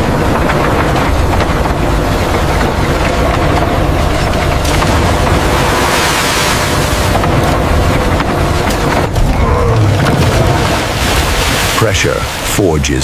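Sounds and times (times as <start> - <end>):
constant rushing noise: 0.0 - 13.0
machine rolls rumbling: 0.0 - 13.0.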